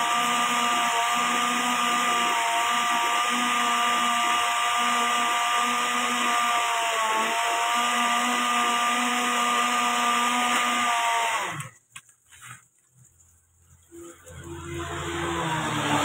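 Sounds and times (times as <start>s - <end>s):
electric blender motor whining: 0.0s - 11.8s, 14.1s - 16.0s.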